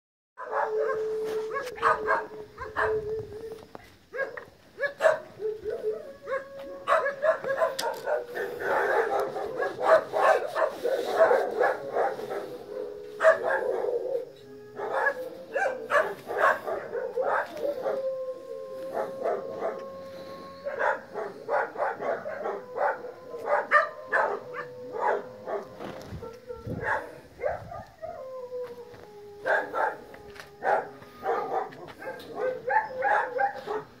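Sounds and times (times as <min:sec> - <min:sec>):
dogs barking: 0:00.4 - 0:03.0, 0:04.1 - 0:18.2, 0:18.8 - 0:20.0, 0:20.6 - 0:25.8, 0:26.7 - 0:28.2, 0:29.4 - 0:34.0.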